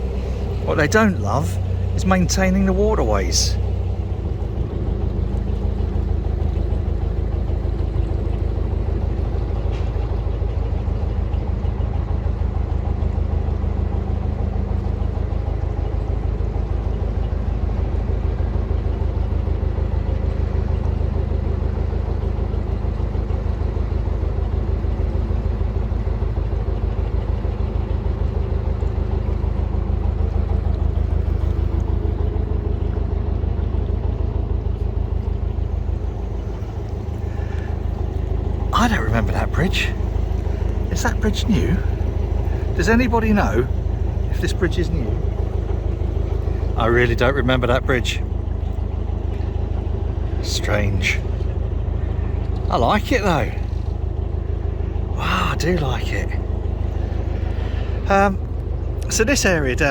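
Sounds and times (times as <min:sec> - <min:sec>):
boat engine chugging: 0:00.0 - 0:59.9.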